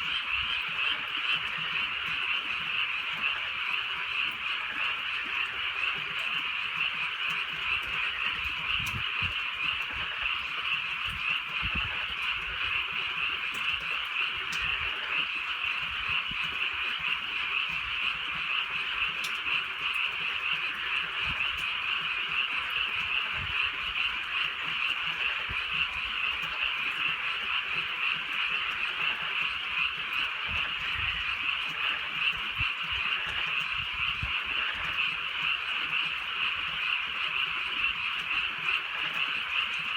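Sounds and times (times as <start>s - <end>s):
chorus of frogs croaking: 0.0s - 39.9s
faint ticks: 0.0s - 39.9s.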